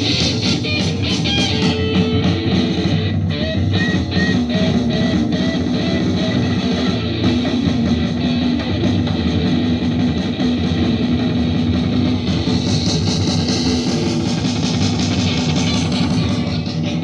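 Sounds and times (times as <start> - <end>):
rock music with guitar and bass: 0.0 - 17.0.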